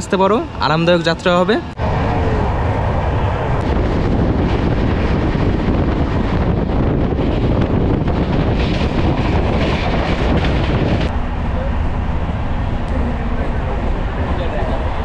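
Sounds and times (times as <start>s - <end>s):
train rumbling: 0.0s - 15.0s
wind buffeting microphone: 1.6s - 15.0s.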